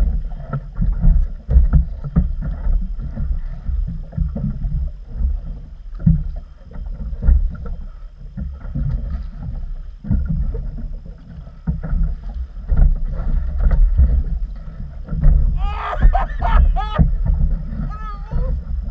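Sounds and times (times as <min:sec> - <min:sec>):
water slapping boat hull: 0:00.0 - 0:18.9.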